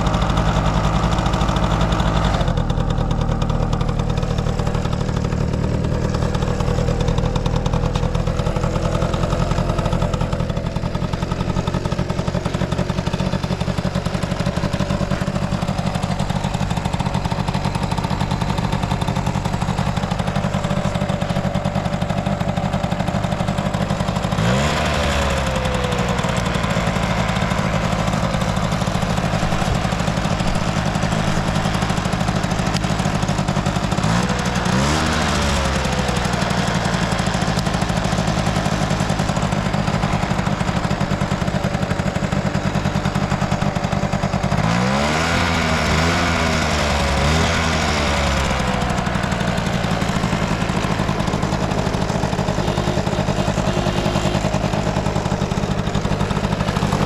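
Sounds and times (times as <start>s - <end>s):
small two-stroke engine idling and revving: 0.0s - 57.0s.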